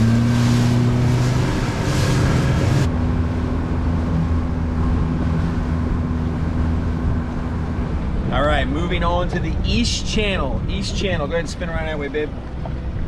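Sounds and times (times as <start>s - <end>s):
motorboat engine drone: 0.0s - 13.0s.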